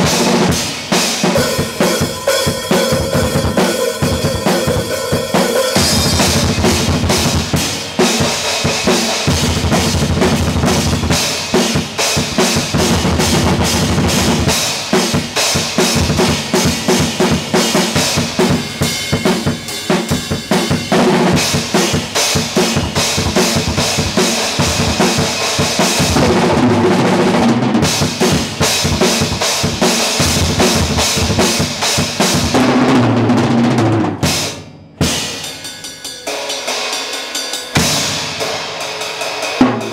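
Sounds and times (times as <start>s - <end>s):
drum kit played fast: 0.0s - 39.9s.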